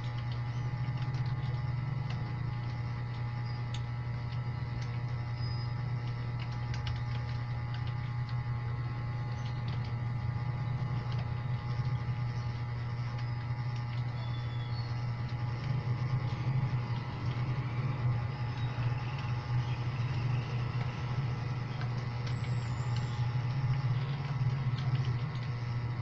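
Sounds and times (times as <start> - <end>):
keyboard keys clicking: 0.0 - 2.8, 6.0 - 8.4, 9.3 - 10.0, 10.6 - 25.7
low hum: 0.0 - 26.0.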